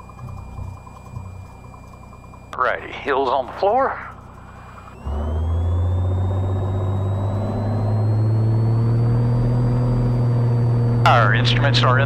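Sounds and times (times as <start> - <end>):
airplane piston engine roaring: 0.0 - 12.0
faint rising whine: 0.0 - 12.0.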